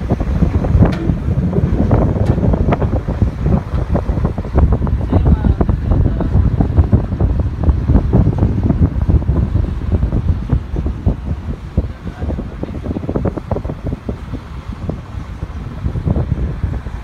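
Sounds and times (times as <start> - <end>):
boat running noise: 0.0 - 17.0
water beneath boat: 0.0 - 17.0
wind buffeting microphone: 0.0 - 17.0.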